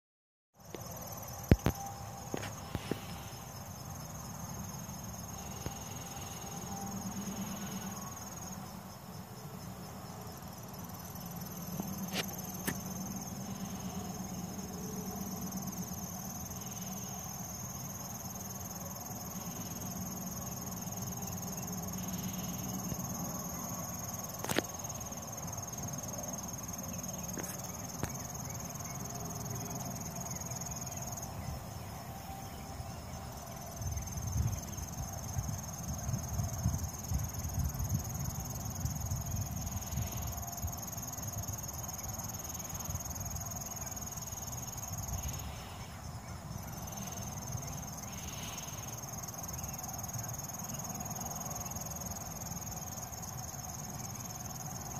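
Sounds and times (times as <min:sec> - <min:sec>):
insects trilling: 0:00.6 - 0:54.9.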